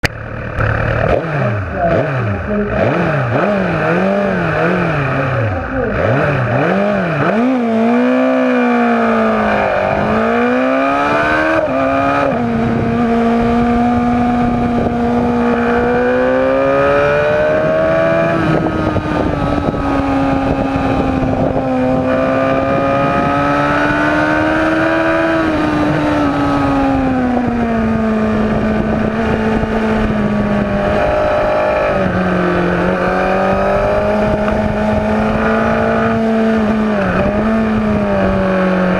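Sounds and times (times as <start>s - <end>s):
superbike engine revving: 0.0s - 38.9s.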